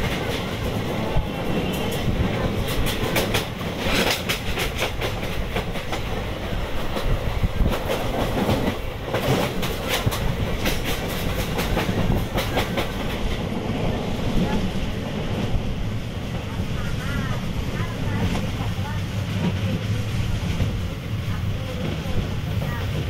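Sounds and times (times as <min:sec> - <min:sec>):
train coach rumble and rush: 0:00.0 - 0:23.0.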